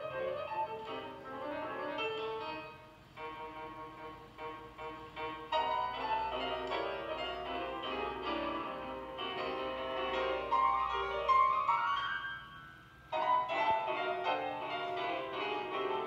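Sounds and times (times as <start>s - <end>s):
two pianos playing classical music: 0.0s - 16.0s.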